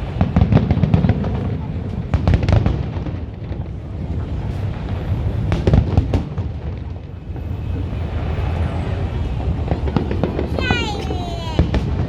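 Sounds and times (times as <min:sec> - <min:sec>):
fireworks sharp cracks: 0:00.0 - 0:12.0
low rumble of fireworks shells: 0:00.0 - 0:12.0.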